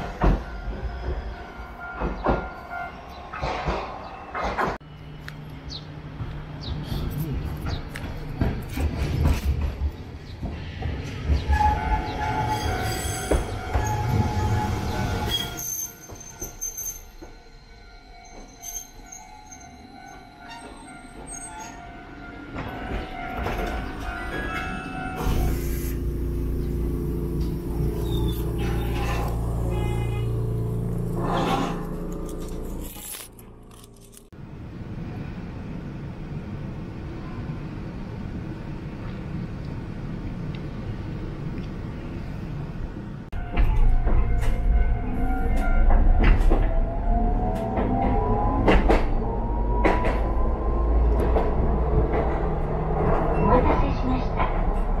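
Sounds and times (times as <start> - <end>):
tram wheels rumbling and squealing: 0.0 - 55.0.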